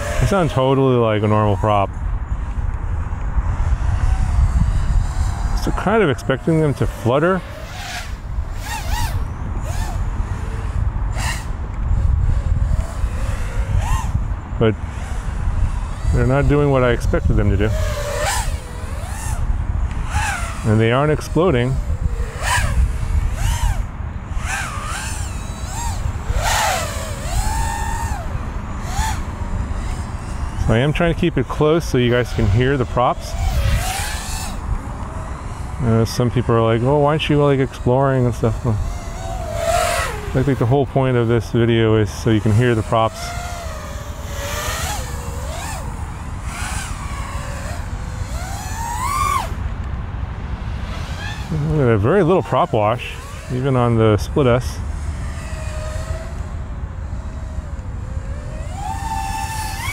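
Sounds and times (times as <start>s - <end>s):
quadcopter motor and prop whine: 0.0s - 59.9s.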